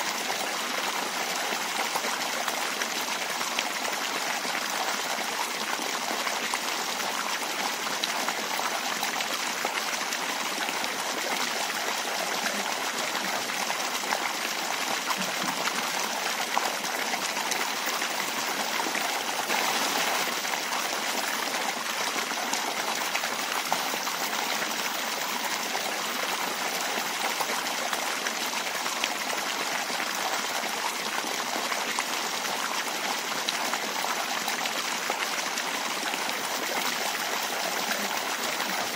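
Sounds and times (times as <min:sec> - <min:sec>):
water splashing into a pond: 0:00.1 - 0:31.3.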